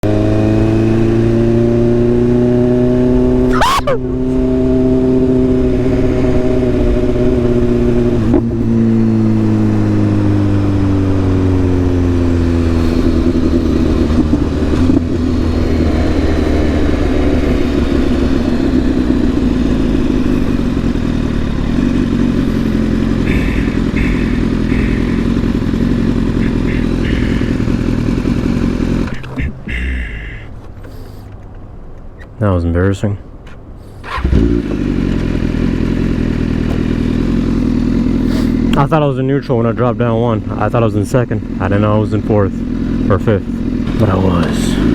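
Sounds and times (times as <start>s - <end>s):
motorcycle engine revs falling: 0.0s - 31.1s, 33.8s - 38.9s, 41.4s - 44.9s.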